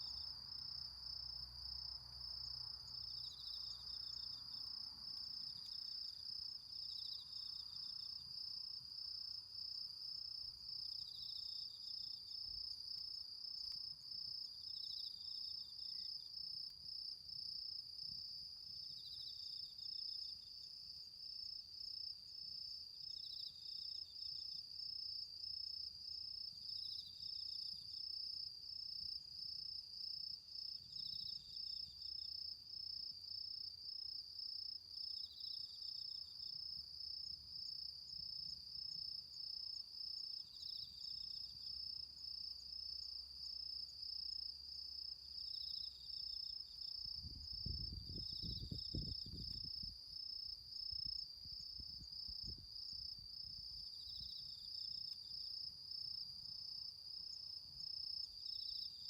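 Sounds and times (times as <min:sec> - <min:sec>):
cricket chirping phrase: 0:00.0 - 0:59.0.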